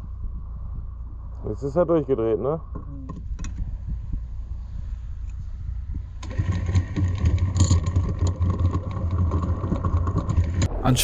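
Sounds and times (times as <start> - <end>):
anchor windlass whining and rattling: 0.0 - 11.0
boat engine humming: 0.0 - 11.0.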